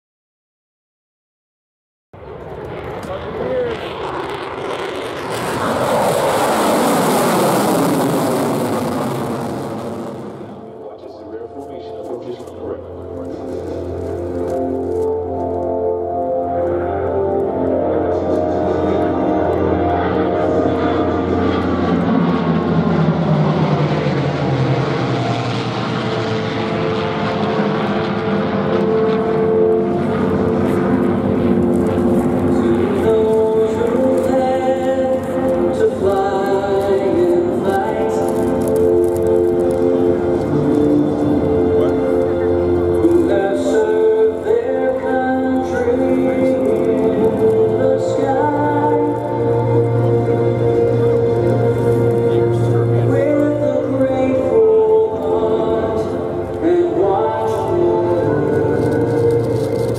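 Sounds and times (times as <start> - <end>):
jet engines rushing: 2.2 - 59.9.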